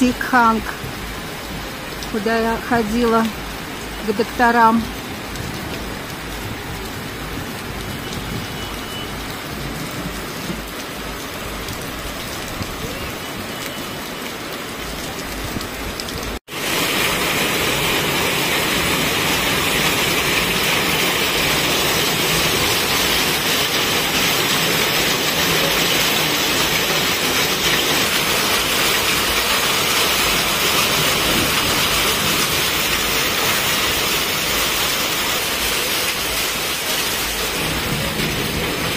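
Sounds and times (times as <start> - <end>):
heavy rain and hail: 0.0 - 38.9.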